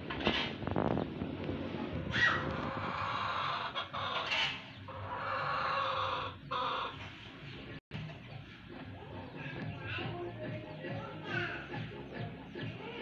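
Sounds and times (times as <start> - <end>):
hen clucking: 2.1 - 13.0.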